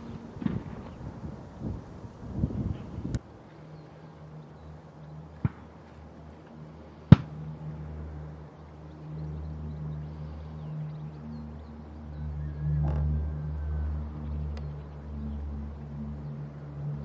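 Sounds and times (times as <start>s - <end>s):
distant turboprop engines droning: 0.0s - 17.0s.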